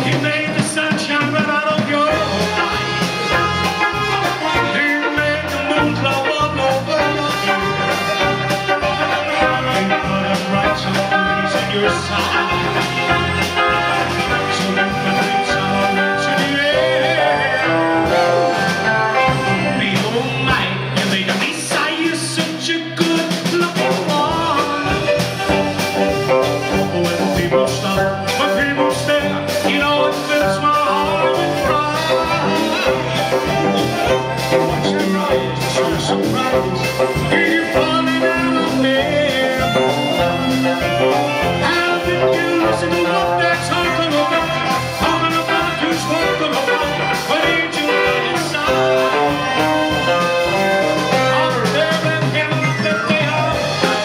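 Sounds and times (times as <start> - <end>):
man singing into microphone: 0.0 - 3.0, 4.4 - 25.4, 26.6 - 54.0
live band playing: 0.0 - 54.0.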